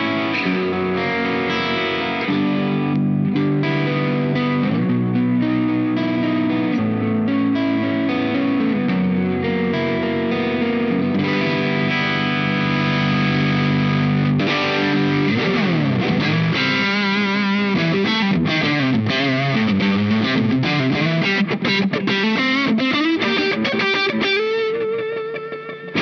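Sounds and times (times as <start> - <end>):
overdriven electric guitar: 0.0 - 26.0.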